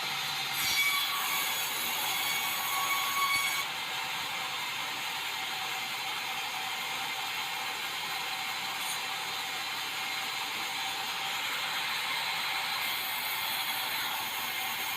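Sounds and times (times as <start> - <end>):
sawmill saw cutting timber: 0.0 - 14.9.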